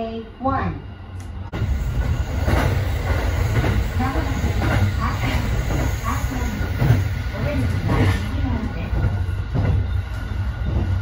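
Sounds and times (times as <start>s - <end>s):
train wheels rumbling on rail: 1.2s - 11.0s.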